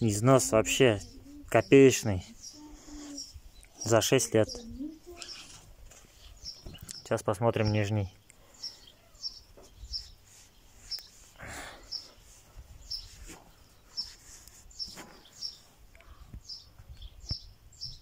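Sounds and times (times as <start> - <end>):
small bird chirping: 0.0 - 18.0.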